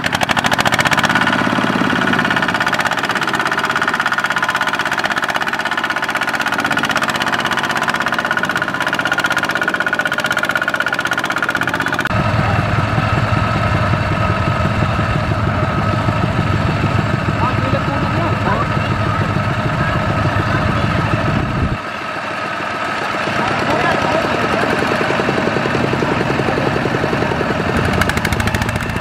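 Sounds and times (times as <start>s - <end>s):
deep heavy engine chug: 0.0s - 29.0s
walking tractor diesel engine chugging: 0.0s - 29.0s.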